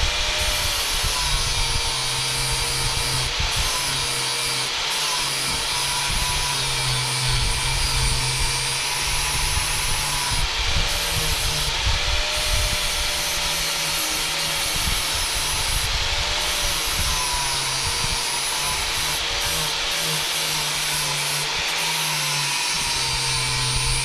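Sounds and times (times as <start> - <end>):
electric power tool rasping: 0.0 - 24.0.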